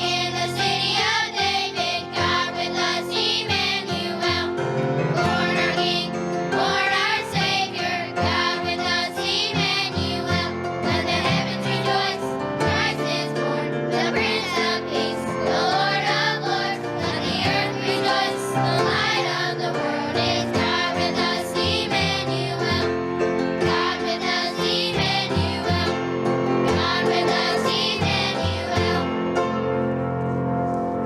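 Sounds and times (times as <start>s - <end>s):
children's choir singing: 0.0s - 29.9s
instrumental accompaniment: 0.0s - 31.0s.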